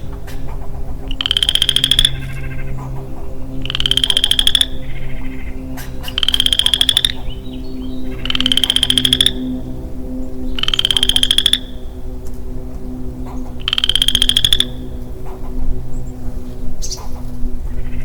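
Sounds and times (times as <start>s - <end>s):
frog calling with pulsed trill: 1.0s - 16.1s.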